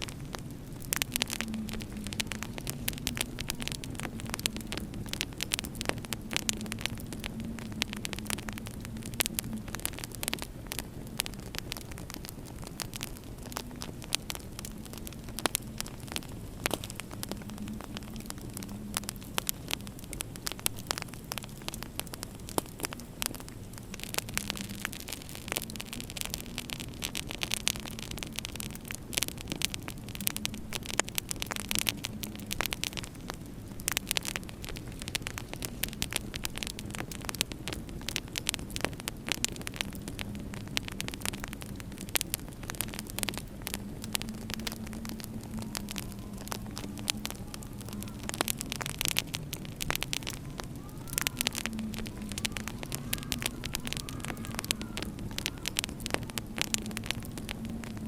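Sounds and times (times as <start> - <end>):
low steady hum: 0.0 - 58.0
wood fire crackling: 0.0 - 58.0.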